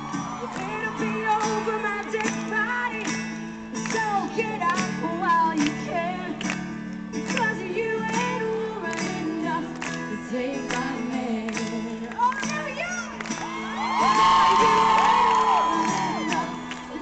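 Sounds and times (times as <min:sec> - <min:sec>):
guitar: 0:00.0 - 0:17.0
woman singing: 0:00.4 - 0:06.6, 0:07.2 - 0:13.2, 0:13.8 - 0:17.0.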